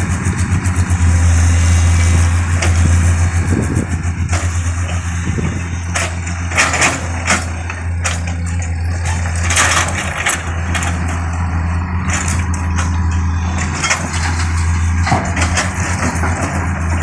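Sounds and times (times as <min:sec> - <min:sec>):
excavator diesel engine running: 0:00.0 - 0:17.0
noisy rush: 0:00.0 - 0:17.0.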